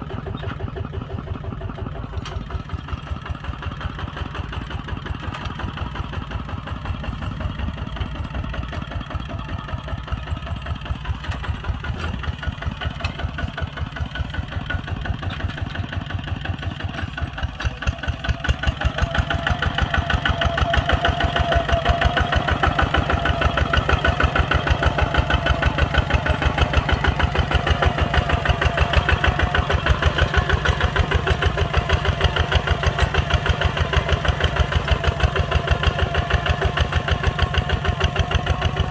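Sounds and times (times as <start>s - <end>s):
tractor diesel engine chugging: 0.0s - 38.9s.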